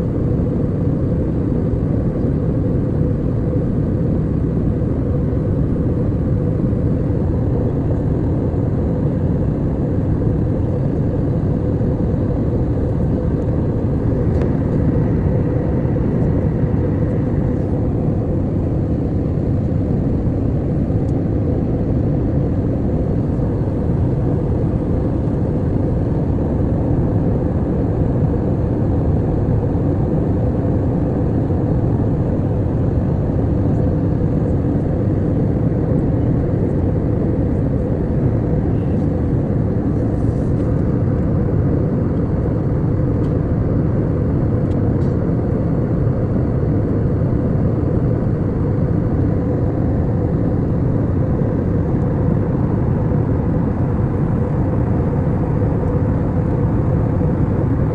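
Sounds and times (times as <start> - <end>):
airliner engines droning: 0.0 - 57.9
faint steady hum: 0.0 - 57.9.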